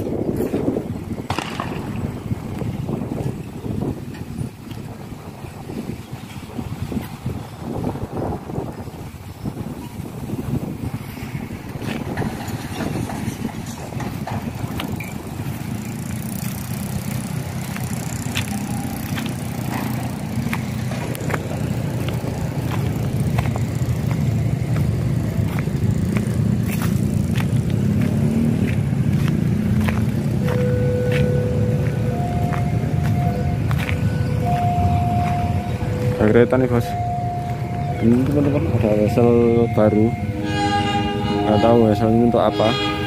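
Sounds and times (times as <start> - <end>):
low engine rumble: 0.0 - 43.0.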